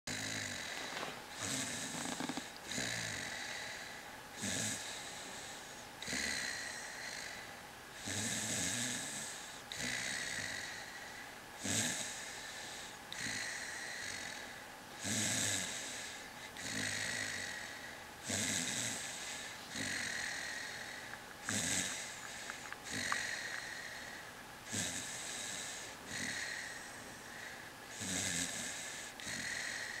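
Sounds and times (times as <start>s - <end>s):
dog snoring: 0.1s - 30.0s.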